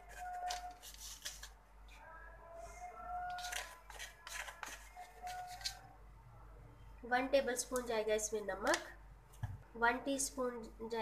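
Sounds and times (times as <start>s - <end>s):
faint soft background music: 0.0s - 9.0s.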